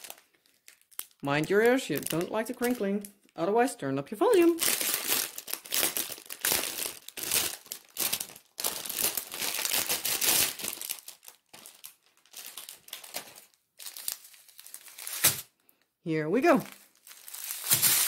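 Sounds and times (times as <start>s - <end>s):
plastic wrapping crinkling: 0.0s - 3.3s, 4.2s - 15.6s, 16.4s - 18.0s.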